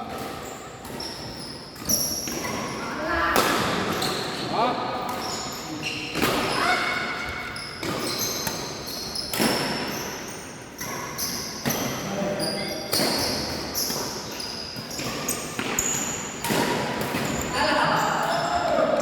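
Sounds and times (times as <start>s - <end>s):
shoes squeaking on court: 0.0s - 2.8s, 3.9s - 18.7s.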